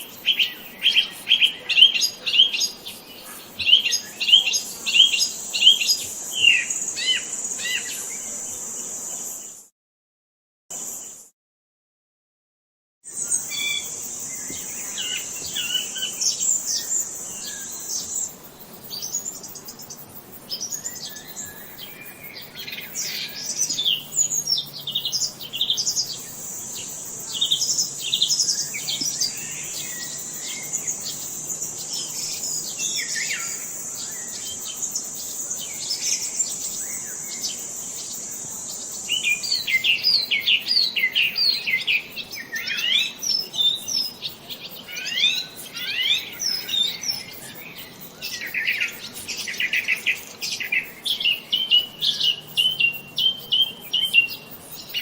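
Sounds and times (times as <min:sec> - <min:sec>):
songbirds chirping: 0:00.0 - 0:09.6, 0:13.1 - 0:55.0
high insect buzz: 0:00.0 - 0:09.7, 0:10.7 - 0:11.3, 0:13.1 - 0:55.0.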